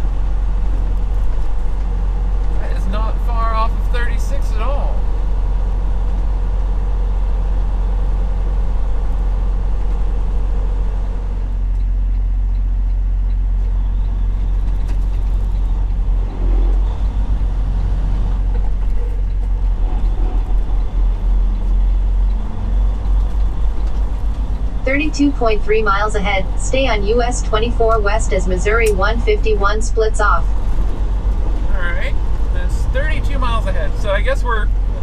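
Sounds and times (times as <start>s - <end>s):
truck diesel engine rumble: 0.0s - 35.0s.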